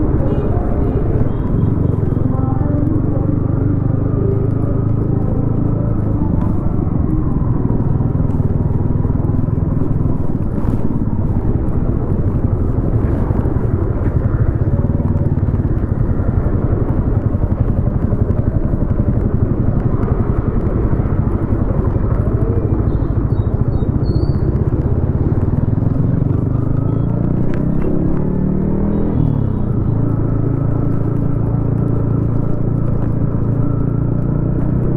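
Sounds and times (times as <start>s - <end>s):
motorcycle engine droning: 0.0s - 34.9s.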